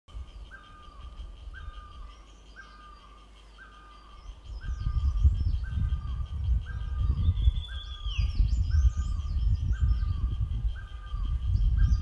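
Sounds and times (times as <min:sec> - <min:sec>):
barbet calling: 0:00.1 - 0:12.0.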